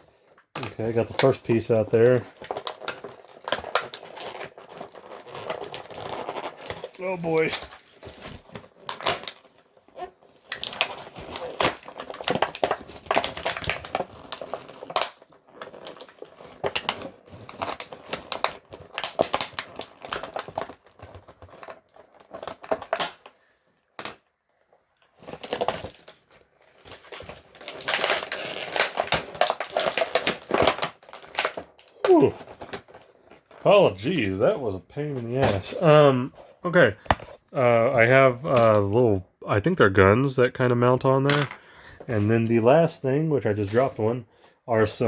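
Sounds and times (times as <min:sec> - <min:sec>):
plastic packaging crinkling: 0:00.0 - 0:39.1, 0:39.9 - 0:45.0.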